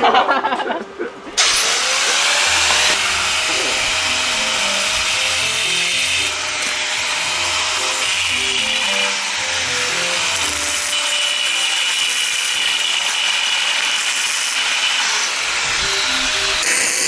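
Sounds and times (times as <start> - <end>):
welding arc crackling: 1.4 - 17.0.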